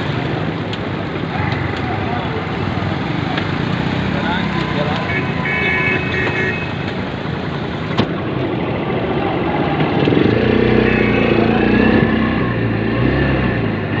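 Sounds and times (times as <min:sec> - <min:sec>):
vehicle engine running: 0:00.0 - 0:13.1.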